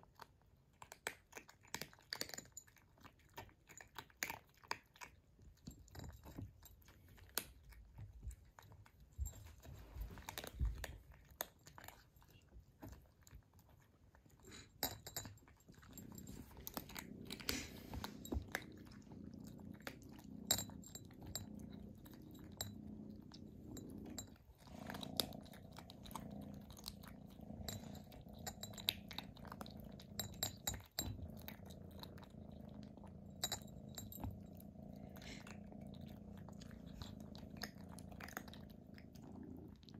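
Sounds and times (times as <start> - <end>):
kittens chewing wetly: 0.0 - 39.9
low steady hum: 5.0 - 39.9.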